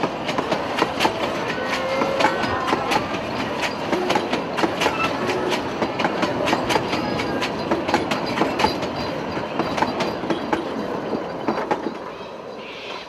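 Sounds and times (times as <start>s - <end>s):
train wheels clattering over rail joints: 0.0s - 12.2s.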